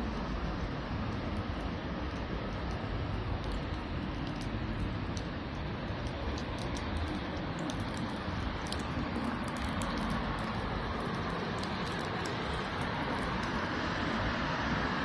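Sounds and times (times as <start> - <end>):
raindrops ticking: 0.0 - 14.4
rain hissing: 0.0 - 15.0
traffic on wet street: 0.0 - 15.0.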